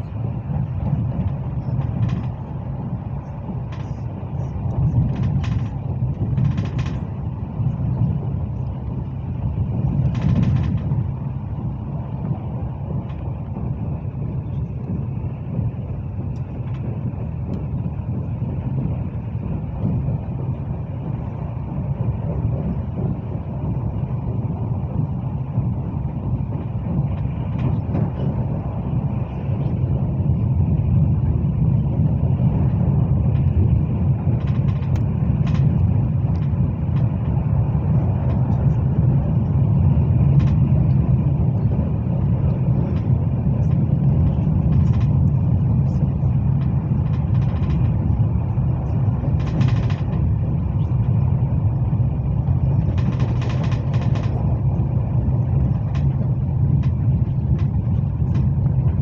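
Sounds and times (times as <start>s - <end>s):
train running gear rumble: 0.0s - 59.0s.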